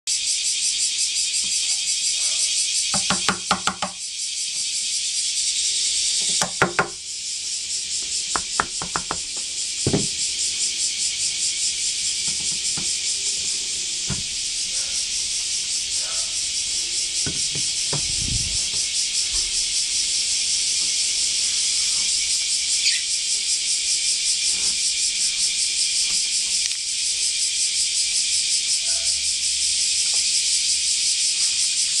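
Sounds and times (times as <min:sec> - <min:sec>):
high insect buzz: 0:00.1 - 0:32.0.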